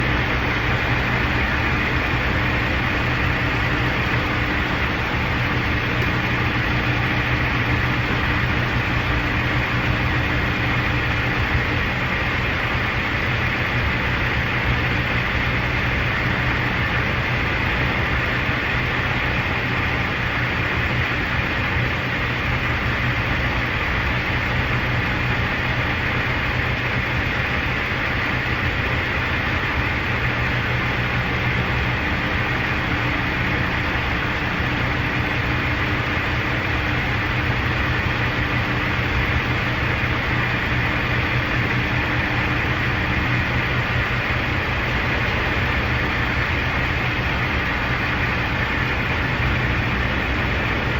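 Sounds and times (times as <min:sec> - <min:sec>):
vehicle low hum: 0:00.0 - 0:50.9.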